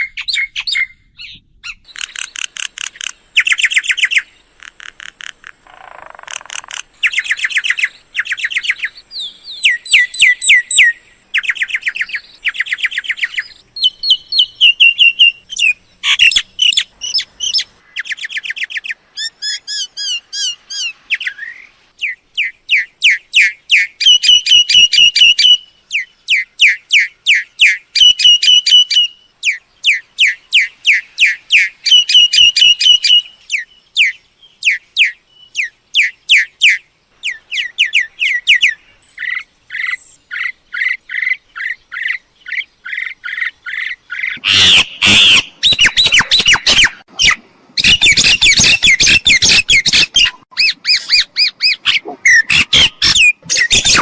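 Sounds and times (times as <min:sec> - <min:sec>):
myna chirping and whistling: 0:06.0 - 0:54.0.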